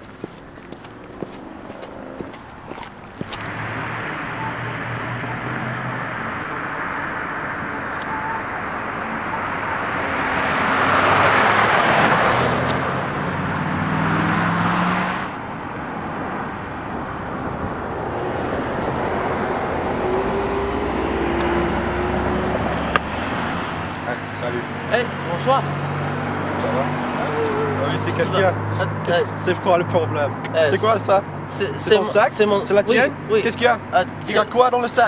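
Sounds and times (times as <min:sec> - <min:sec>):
background traffic noise: 0:00.0 - 0:35.0
car passing: 0:00.0 - 0:35.0.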